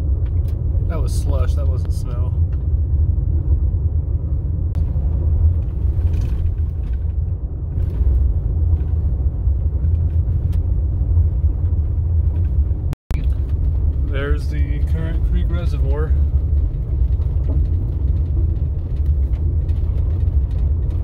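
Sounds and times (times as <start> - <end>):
tyres and engine rumbling: 0.0 - 21.0.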